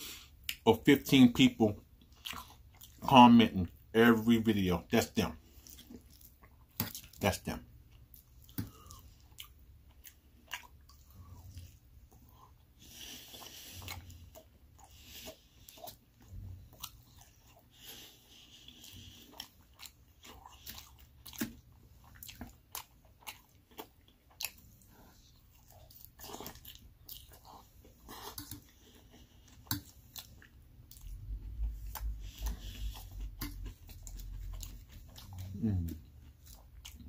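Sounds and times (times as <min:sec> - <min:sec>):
wet crunchy chewing: 0:01.9 - 0:03.3, 0:05.0 - 0:37.0.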